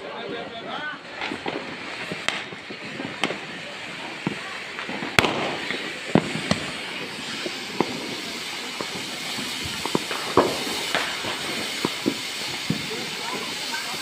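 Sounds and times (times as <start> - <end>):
fountain firework hissing: 0.0 - 14.0
firecracker pops and bangs: 1.1 - 14.0.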